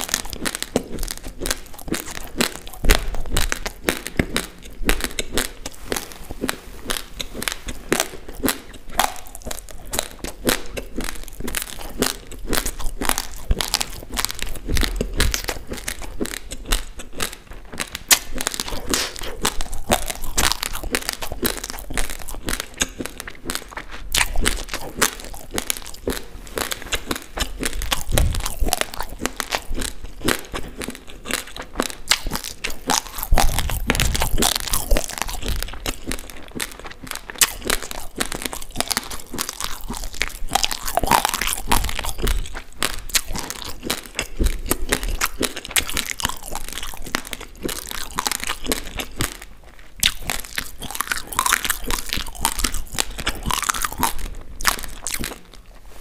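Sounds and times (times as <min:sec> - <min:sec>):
crunchy chewing of raw rice: 0:00.0 - 0:56.0.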